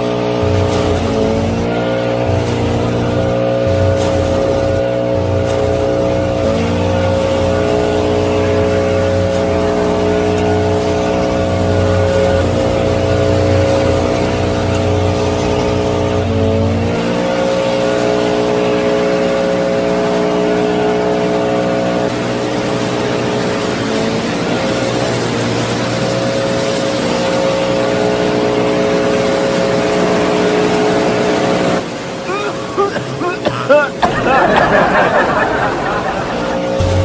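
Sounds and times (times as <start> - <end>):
mini tractor motor whining: 0.0 - 31.8.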